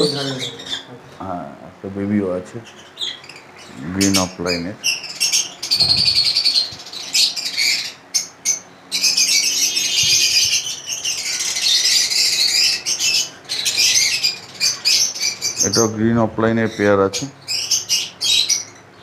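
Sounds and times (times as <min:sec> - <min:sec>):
lovebirds chattering and chirping: 0:00.0 - 0:19.0.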